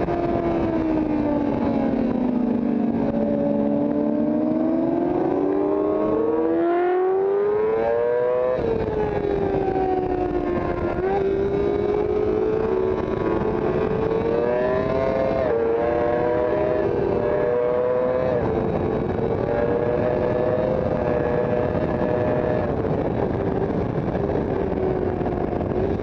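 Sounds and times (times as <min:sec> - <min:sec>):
wind rush: 0:00.0 - 0:26.0
sport bike engine accelerating: 0:00.1 - 0:26.0.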